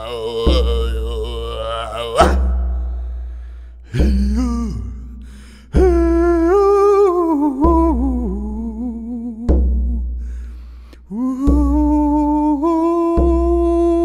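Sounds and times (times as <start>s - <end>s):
man singing wordless tones: 0.0s - 3.0s, 3.8s - 10.2s, 11.0s - 14.0s
hand drum deep beats: 0.0s - 10.4s, 11.0s - 14.0s.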